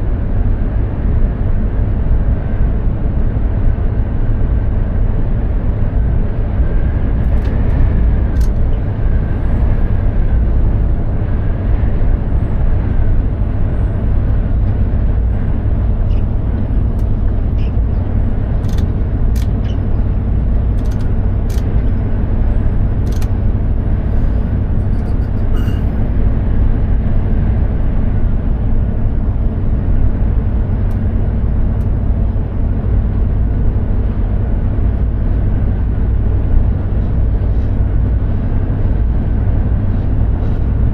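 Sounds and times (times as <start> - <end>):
truck engine and road noise: 0.0 - 40.9.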